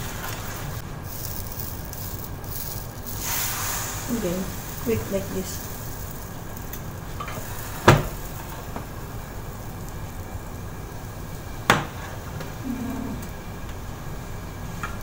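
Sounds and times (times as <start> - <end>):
batter sizzling in frying pan: 0.0 - 12.6.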